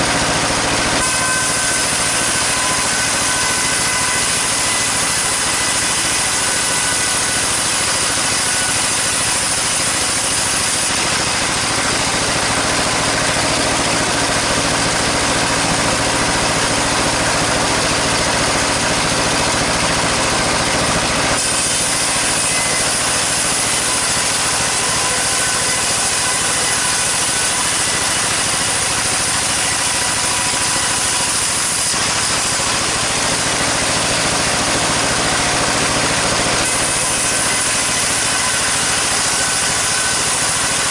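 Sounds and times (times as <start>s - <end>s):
motor hum: 0.0s - 40.9s
saw cutting timber: 0.0s - 40.9s.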